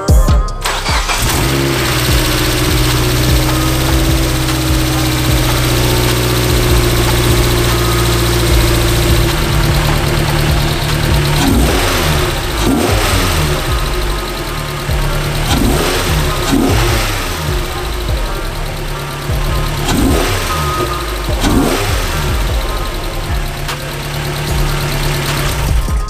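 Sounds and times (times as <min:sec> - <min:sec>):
car engine idling and revving: 0:00.6 - 0:26.0.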